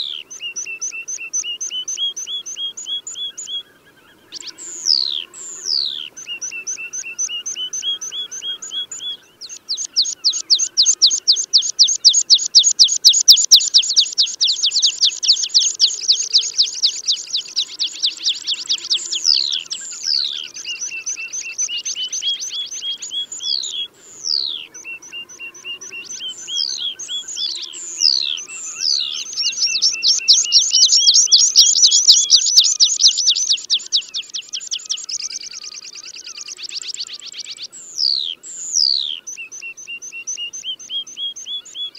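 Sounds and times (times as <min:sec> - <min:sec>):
bird song trills: 0:00.0 - 0:41.9.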